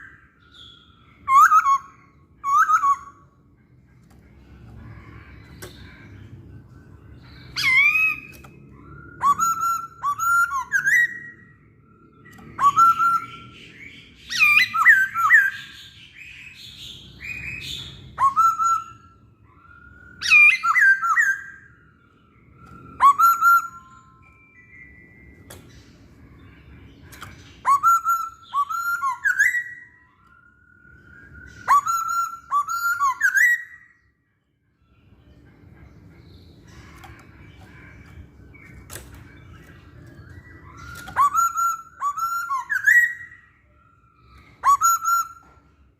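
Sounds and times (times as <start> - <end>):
bird whistling song: 0.0 - 34.2, 34.8 - 45.9.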